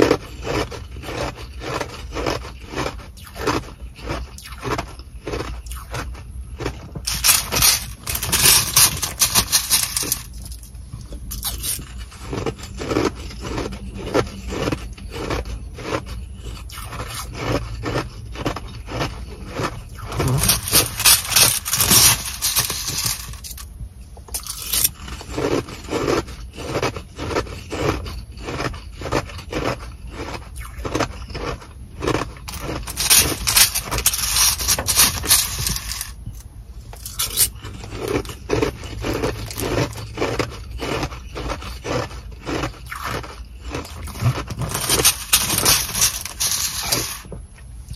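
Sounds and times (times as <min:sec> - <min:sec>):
fork scraping ice in plastic bag: 0:00.0 - 0:23.7, 0:24.4 - 0:36.2, 0:37.0 - 0:47.4.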